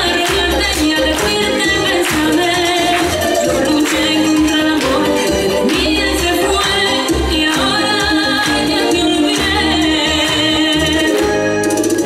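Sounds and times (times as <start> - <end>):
latin dance song with singing: 0.0 - 12.0.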